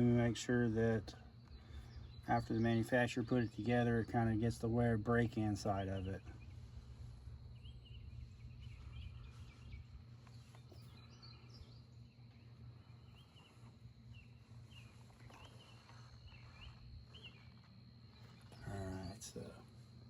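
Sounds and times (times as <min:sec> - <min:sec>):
faint bird chirps: 0:00.0 - 0:19.9
low steady hum: 0:00.0 - 0:20.0.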